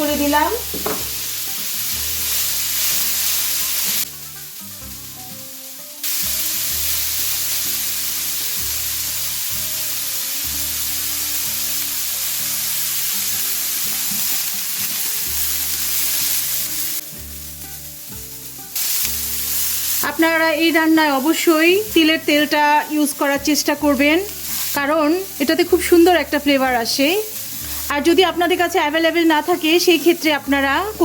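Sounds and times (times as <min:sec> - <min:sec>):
vegetables sizzling in a frying pan: 0:00.0 - 0:31.0.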